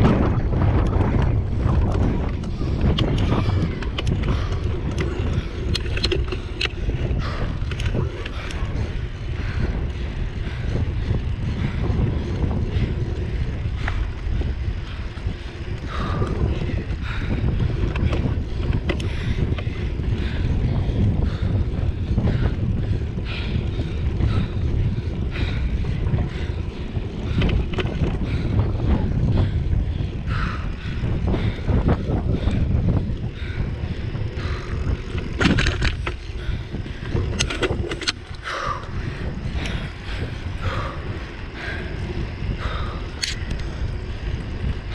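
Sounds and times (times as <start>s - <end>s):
bike rolling rumble: 0.0s - 44.9s
sharp clicks and rattles: 0.0s - 44.9s
wind noise on microphone: 0.0s - 44.9s.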